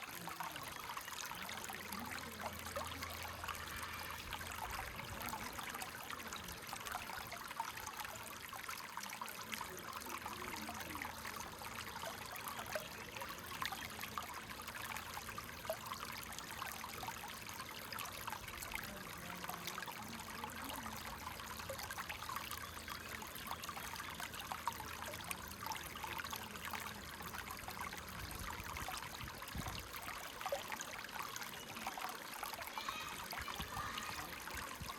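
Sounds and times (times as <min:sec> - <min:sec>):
creek water babbling: 0:00.0 - 0:34.9.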